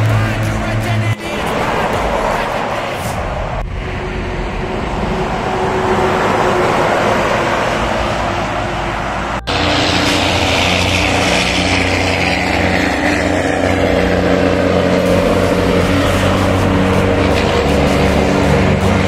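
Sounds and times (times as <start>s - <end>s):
deep engine hum: 0.0s - 19.0s
heavy trucks passing: 0.0s - 19.0s
tyre whine: 0.0s - 19.0s.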